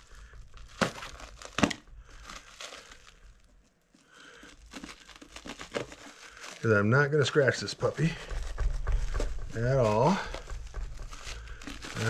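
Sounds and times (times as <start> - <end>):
plastic wrap crinkling and tearing: 0.0 - 12.0
sharp plastic crackles: 0.0 - 12.0.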